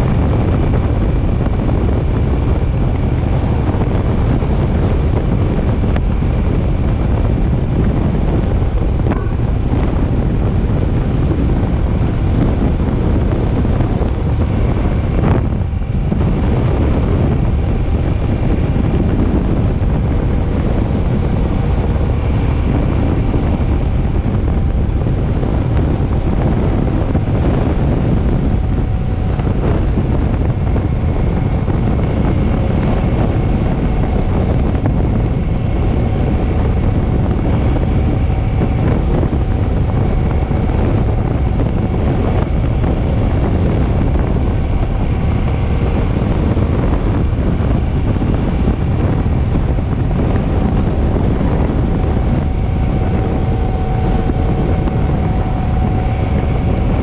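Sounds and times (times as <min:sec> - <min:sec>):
motorcycle engine hum: 0:00.0 - 0:57.0
wind rumble on microphone: 0:00.0 - 0:57.0.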